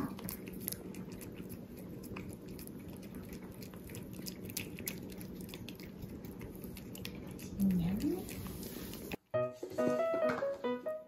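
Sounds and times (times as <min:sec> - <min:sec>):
cat licking wet clicking: 0:00.1 - 0:09.2.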